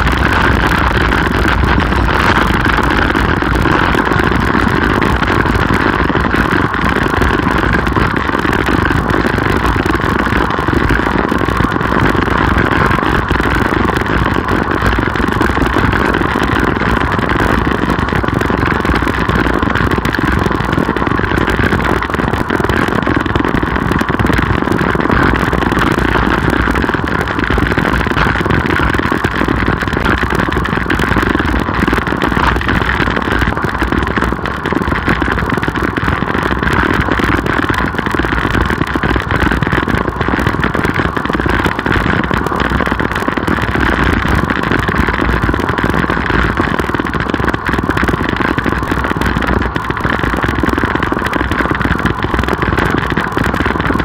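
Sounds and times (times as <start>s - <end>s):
tyre and road rumble: 0.0s - 46.1s
wind rush on microphone: 0.0s - 54.0s.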